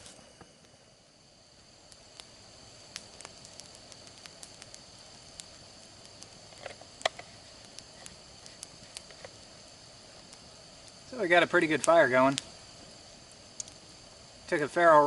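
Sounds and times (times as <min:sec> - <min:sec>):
campfire crackling and popping: 0:00.0 - 0:15.0
night insects trilling: 0:00.0 - 0:15.0.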